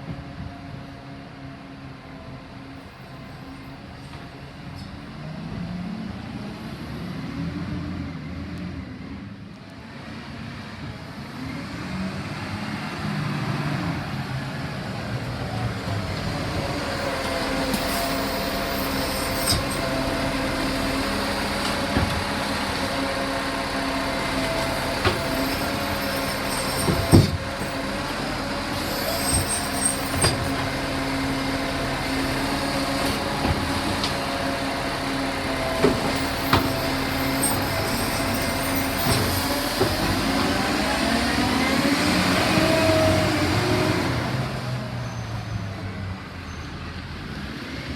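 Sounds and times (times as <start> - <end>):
garbage truck running: 0.0 - 47.9.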